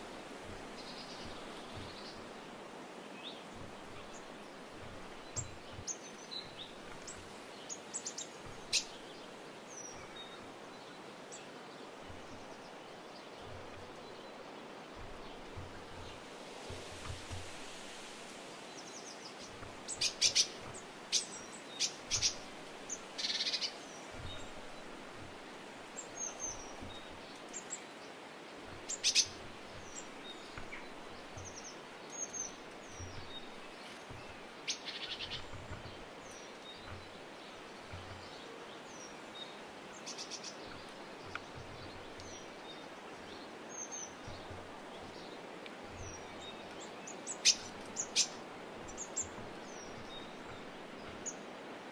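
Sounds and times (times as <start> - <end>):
background hiss: 0.0 - 51.9
songbirds chirping: 0.0 - 51.9.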